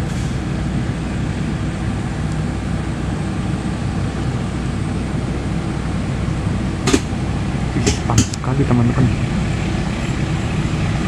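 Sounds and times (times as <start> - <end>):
diesel train engines idling: 0.0 - 11.0.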